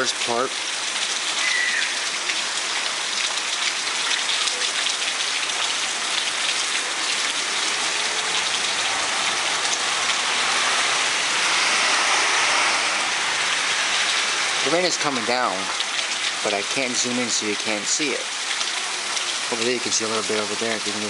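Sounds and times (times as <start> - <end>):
raindrops ticking close by: 0.0 - 21.0
steady rain hiss: 0.0 - 21.0.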